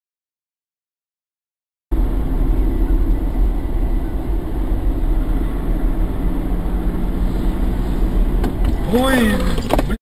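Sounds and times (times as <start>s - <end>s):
car engine and tyre noise: 1.9s - 10.0s.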